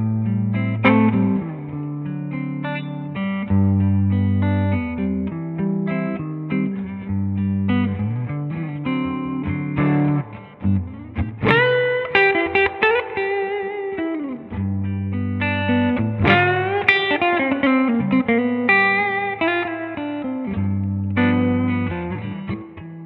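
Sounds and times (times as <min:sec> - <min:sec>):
electric guitar lead with bends: 0:00.0 - 0:23.0.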